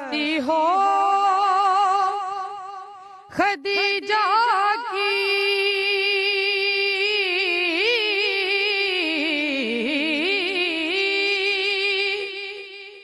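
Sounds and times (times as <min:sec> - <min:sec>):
person singing a devotional song: 0:00.0 - 0:13.0.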